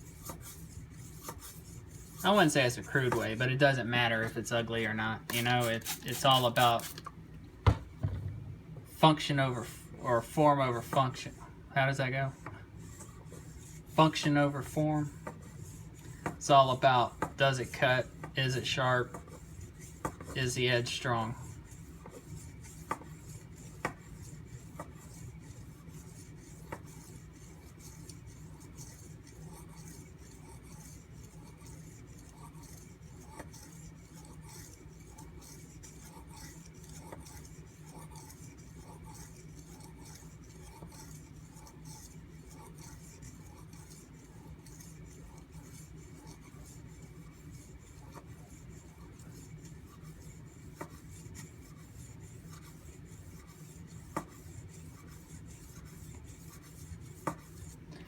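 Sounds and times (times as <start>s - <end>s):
knife scraping on whetstone: 0.0s - 3.5s, 4.2s - 7.0s, 12.3s - 57.8s.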